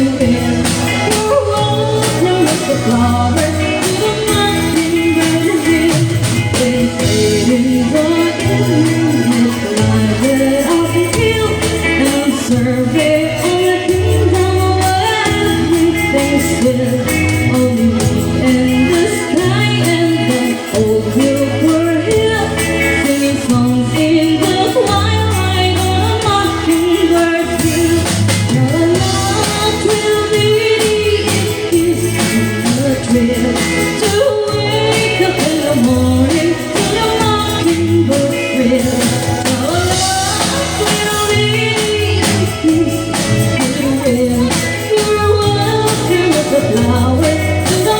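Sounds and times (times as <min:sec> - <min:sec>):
live band playing a waltz: 0:00.0 - 0:47.9
person singing: 0:00.0 - 0:47.9.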